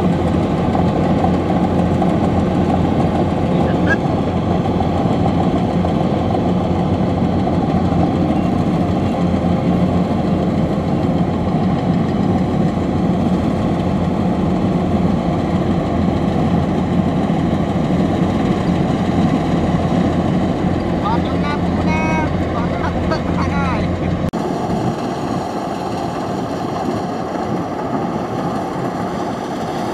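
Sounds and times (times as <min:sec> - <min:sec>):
combine harvester diesel engine din: 0:00.0 - 0:29.9.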